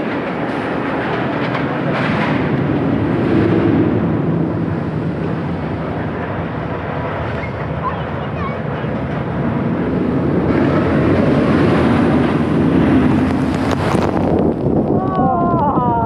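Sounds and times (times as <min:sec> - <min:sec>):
rail cars rumbling along track: 0:00.0 - 0:16.0.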